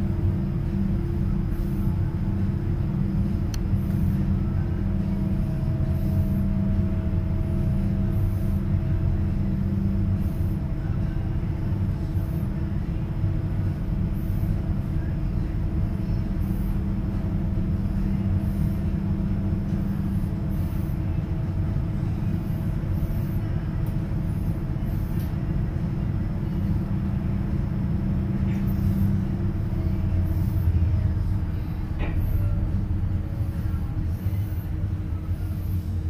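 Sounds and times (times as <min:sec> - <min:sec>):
diesel engines droning: 0:00.0 - 0:36.0.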